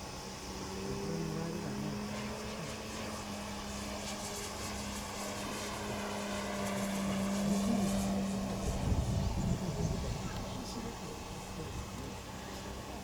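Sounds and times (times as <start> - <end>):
model airplane motor droning: 0.0 - 13.0.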